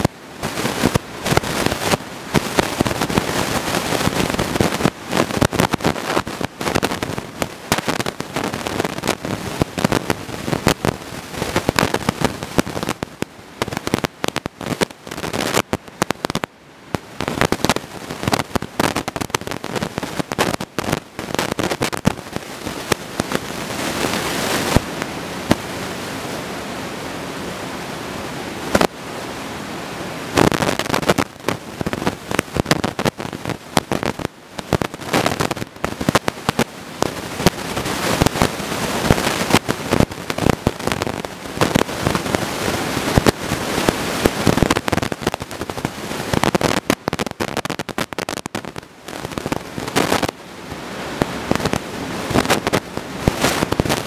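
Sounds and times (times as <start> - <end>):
crackling and popping noise: 0.0 - 54.0.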